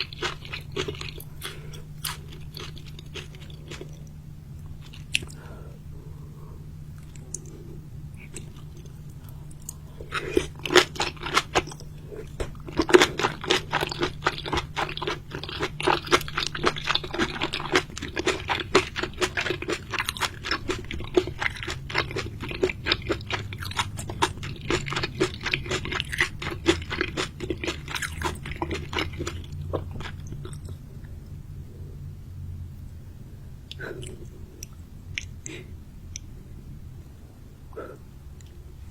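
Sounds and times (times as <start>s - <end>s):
person chewing crunchy food: 0.0s - 5.8s, 6.9s - 31.3s, 33.7s - 36.4s
low steady hum: 0.0s - 38.9s.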